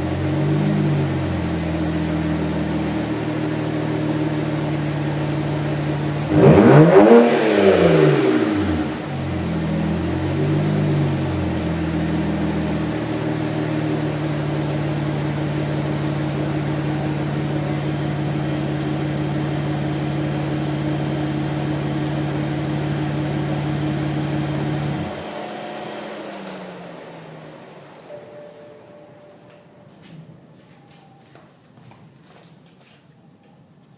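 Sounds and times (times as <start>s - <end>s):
car engine idling and revving: 0.0s - 31.2s.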